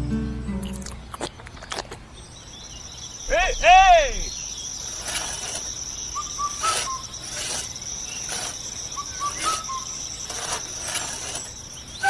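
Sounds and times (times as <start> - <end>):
bird chirping: 0.0 - 12.0
cricket trill: 0.6 - 12.0.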